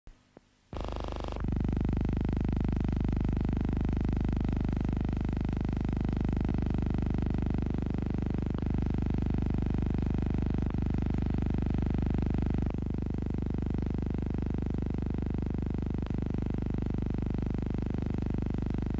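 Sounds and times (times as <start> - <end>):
electrical hum and buzz: 0.2 - 18.9.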